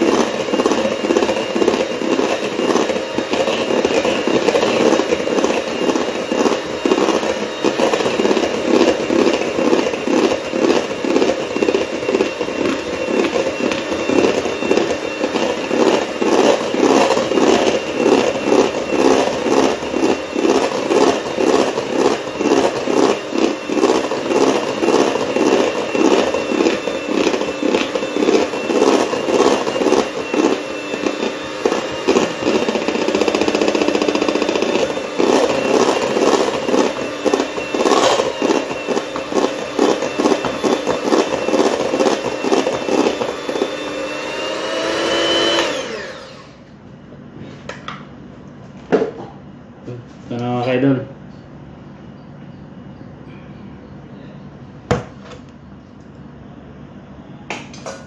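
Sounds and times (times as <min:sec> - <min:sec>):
electric mixer whipping cream: 0:00.0 - 0:46.8.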